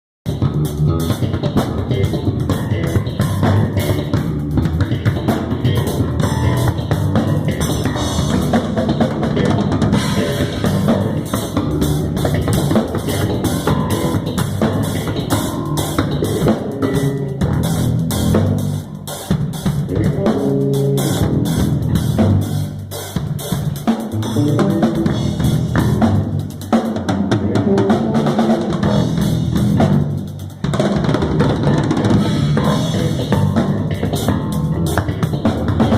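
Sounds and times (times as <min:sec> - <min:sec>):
drum kit groove: 0:00.2 - 0:35.9
electric bass line: 0:00.2 - 0:35.9.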